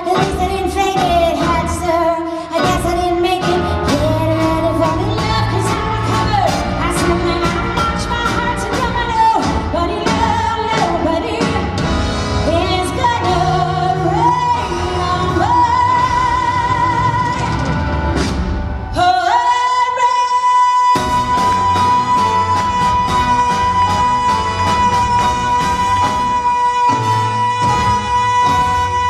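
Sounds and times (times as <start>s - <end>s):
woman singing into microphone: 0.0s - 17.9s, 18.9s - 29.0s
band playing: 0.0s - 29.0s
drums and cymbals: 2.6s - 19.1s, 21.0s - 29.0s.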